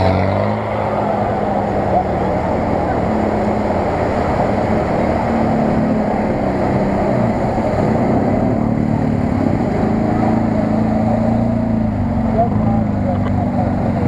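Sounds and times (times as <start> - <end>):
off-road vehicle engines: 0.0 - 14.0.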